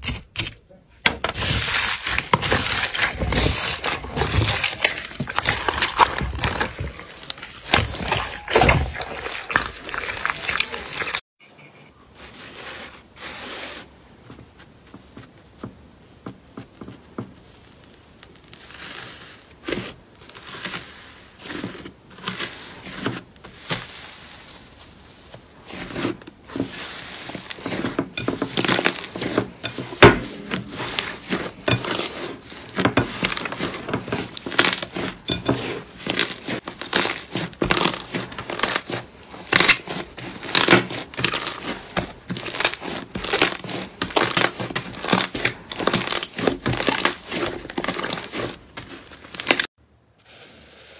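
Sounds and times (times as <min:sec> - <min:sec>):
slime squelch: 0:01.4 - 0:11.2, 0:17.4 - 0:50.9.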